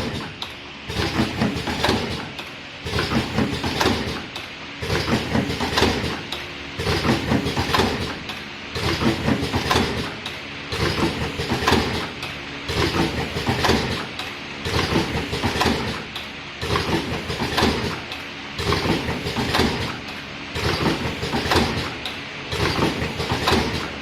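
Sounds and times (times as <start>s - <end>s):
cartoning machine clattering: 0.0s - 24.0s.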